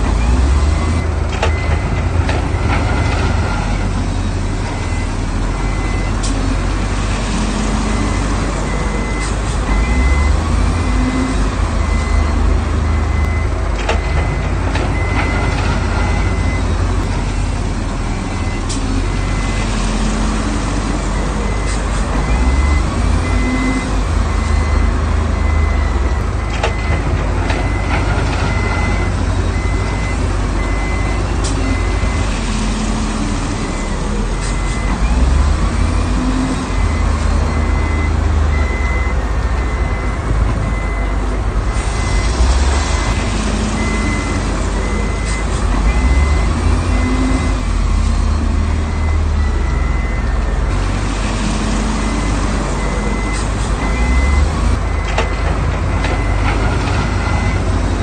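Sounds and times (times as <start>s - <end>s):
heavy diesel machinery rumble: 0.0s - 58.0s
reversing alarm beeping: 0.2s - 6.6s, 7.6s - 20.4s, 21.2s - 57.7s.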